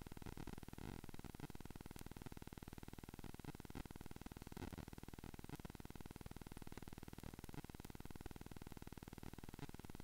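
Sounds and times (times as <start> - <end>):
faint electrical buzz and hiss: 0.0 - 10.0.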